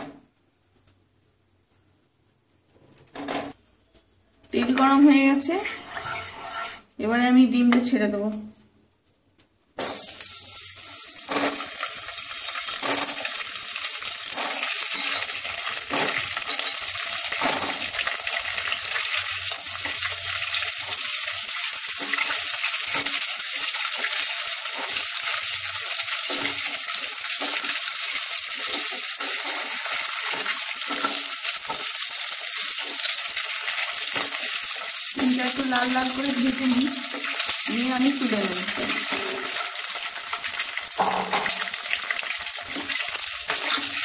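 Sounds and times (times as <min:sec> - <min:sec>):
eggs sizzling in oil: 0:04.5 - 0:07.0, 0:09.8 - 0:44.0.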